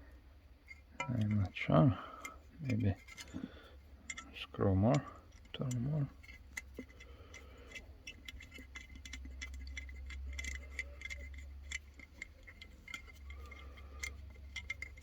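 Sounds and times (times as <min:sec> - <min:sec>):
steady low hum: 0:00.0 - 0:15.0
hand tools clicking on metal: 0:00.7 - 0:15.0.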